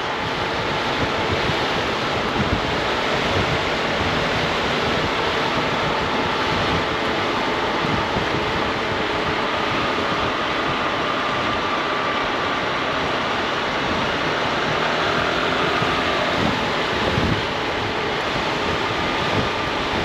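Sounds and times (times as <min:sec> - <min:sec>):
faint scooter engine running: 0:00.0 - 0:20.0
road noise: 0:00.0 - 0:20.0
wind rush: 0:00.0 - 0:20.0.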